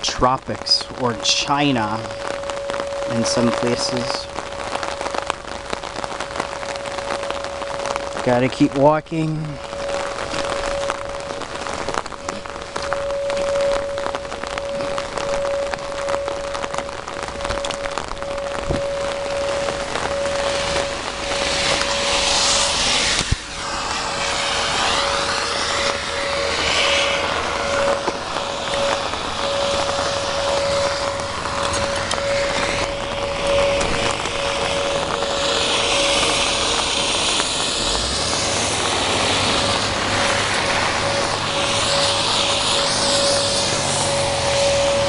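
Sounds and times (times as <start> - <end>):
rain: 0.0 - 45.0
steady high tone: 0.0 - 45.0.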